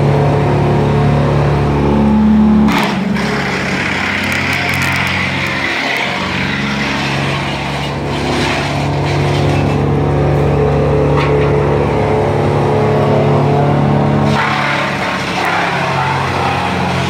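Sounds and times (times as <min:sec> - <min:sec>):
wood chipper engine droning: 0:00.0 - 0:17.0.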